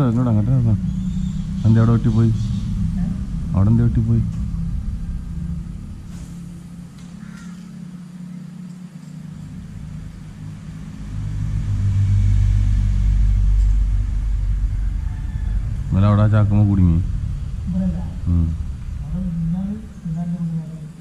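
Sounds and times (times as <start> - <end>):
vehicle rumbling over bridge: 0.0 - 21.0.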